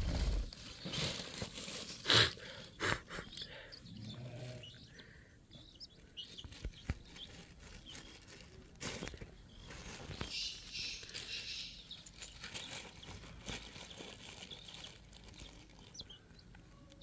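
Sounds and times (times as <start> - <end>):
chicks pecking and scratching soil: 0.0 - 17.0.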